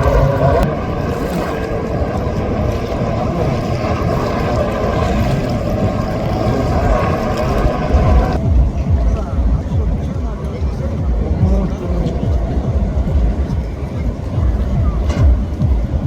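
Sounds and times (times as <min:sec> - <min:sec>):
motorized surfboard engines droning: 0:00.0 - 0:16.0.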